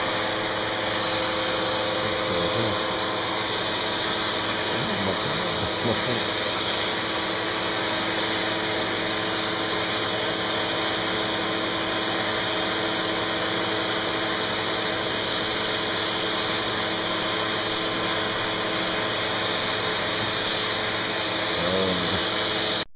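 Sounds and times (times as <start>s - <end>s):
vacuum cleaner running: 0.0s - 22.9s.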